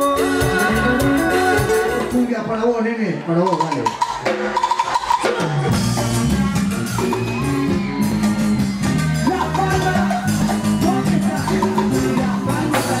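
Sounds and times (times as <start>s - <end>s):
live latin dance band: 0.0s - 13.0s.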